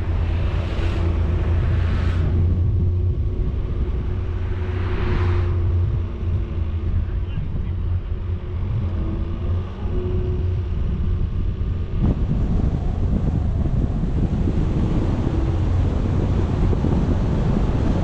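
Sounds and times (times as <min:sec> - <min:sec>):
vehicle engine droning: 0:00.0 - 0:18.0
wind buffeting microphone: 0:00.0 - 0:18.0.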